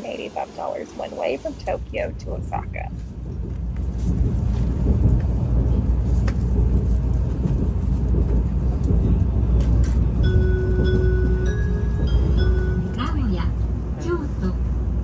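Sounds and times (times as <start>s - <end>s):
train rumble inside passenger car: 0.0s - 15.0s.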